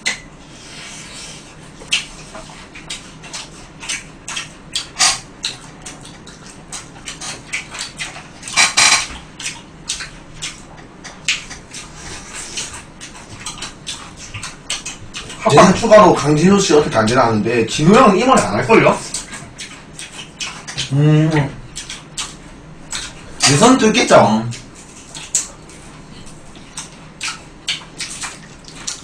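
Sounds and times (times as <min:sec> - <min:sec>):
biting and chewing: 0:01.0 - 0:23.7, 0:24.5 - 0:29.0.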